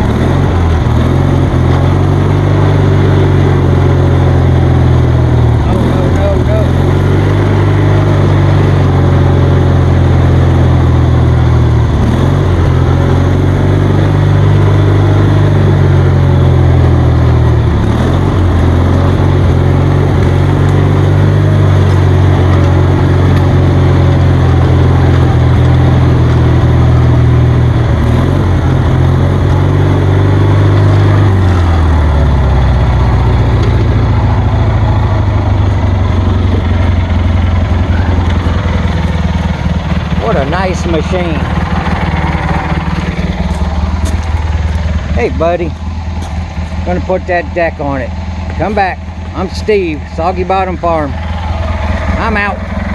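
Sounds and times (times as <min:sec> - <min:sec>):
riding lawnmower engine running: 0:00.0 - 0:52.9.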